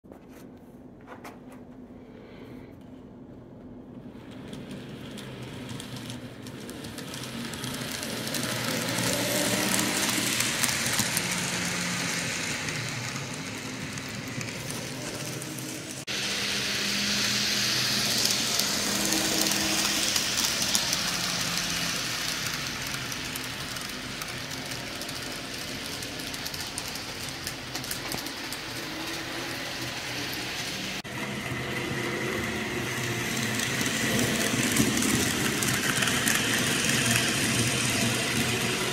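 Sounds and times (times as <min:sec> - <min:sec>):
model train running on track: 0:04.0 - 0:38.9.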